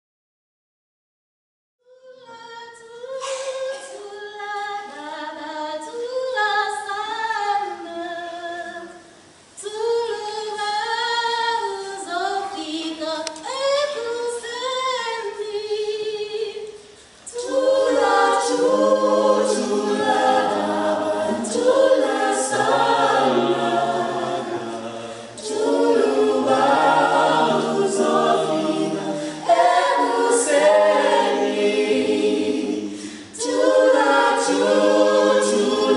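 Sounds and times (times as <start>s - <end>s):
mixed choir singing a cappella: 2.2s - 9.0s, 9.6s - 35.9s.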